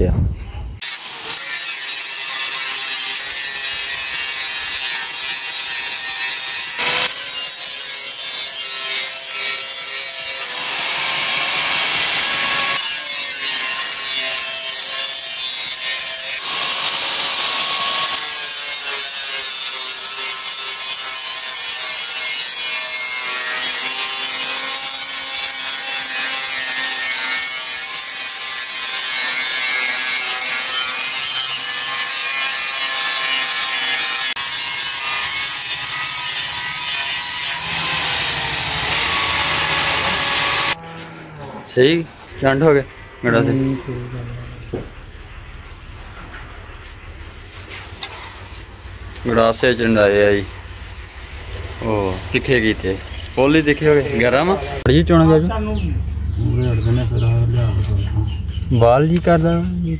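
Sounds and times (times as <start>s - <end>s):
angle grinder grinding steel: 0.8s - 45.1s, 45.8s - 59.9s.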